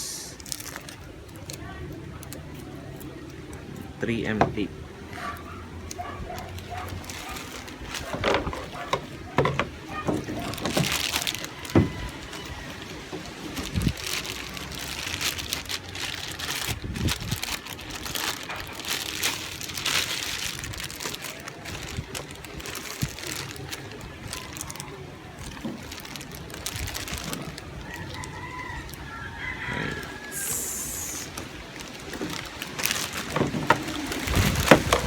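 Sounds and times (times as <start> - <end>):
plastic packaging rustling: 0.0 - 35.0.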